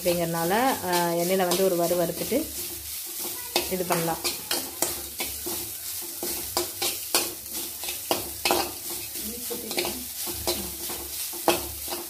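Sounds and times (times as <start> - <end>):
food sizzling in oil: 0.0 - 12.0
metal spatula scraping pan: 0.0 - 12.0.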